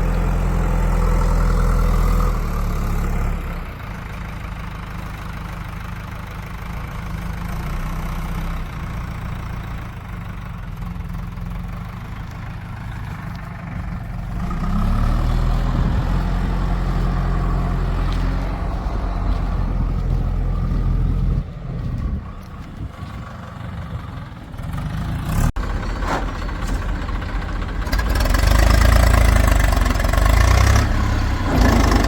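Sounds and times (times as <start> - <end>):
heavy diesel engine revving: 0.0 - 4.2, 5.0 - 32.0.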